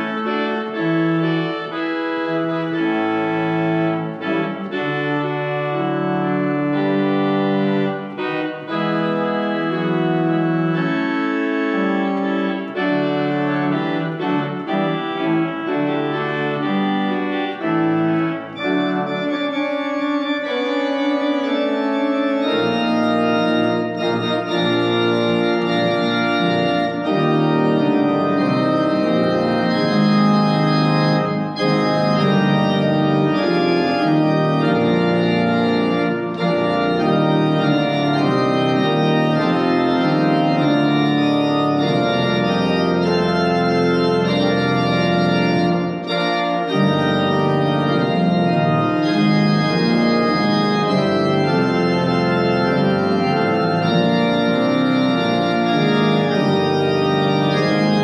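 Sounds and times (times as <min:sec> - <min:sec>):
organ playing sustained chords: 0:00.0 - 0:58.0.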